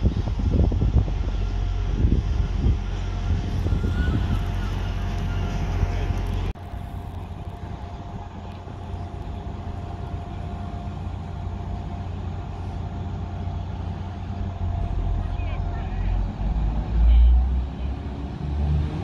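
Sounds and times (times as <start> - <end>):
diesel train engine rumble: 0.0 - 19.0
louder train rumble: 0.0 - 19.0.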